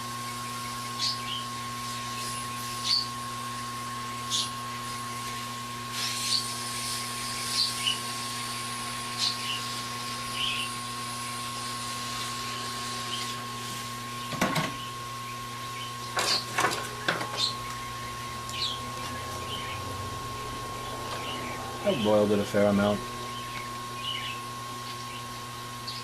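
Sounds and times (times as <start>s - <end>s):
hot-air station blowing: 0.0s - 26.0s.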